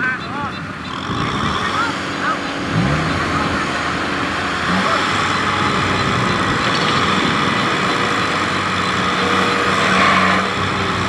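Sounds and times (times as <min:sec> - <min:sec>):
combine harvester and tractor engines: 0:00.0 - 0:11.0.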